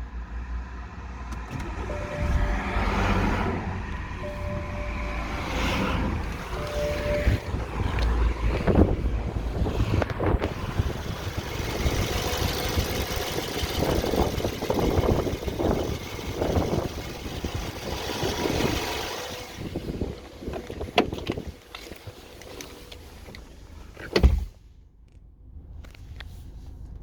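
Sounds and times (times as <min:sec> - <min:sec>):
wind and road noise: 0:00.0 - 0:27.0
car engine running: 0:01.3 - 0:27.0.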